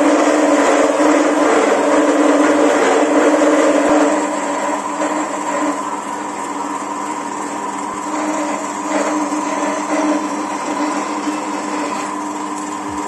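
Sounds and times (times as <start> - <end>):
band saw cutting metal: 0.0 - 13.0.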